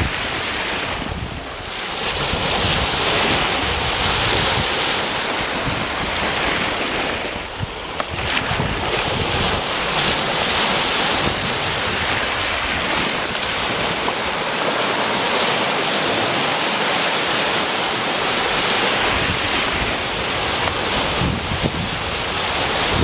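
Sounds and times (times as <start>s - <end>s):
wind buffeting microphone: 0.0s - 16.7s, 17.5s - 23.0s
sea waves on beach: 0.0s - 23.0s.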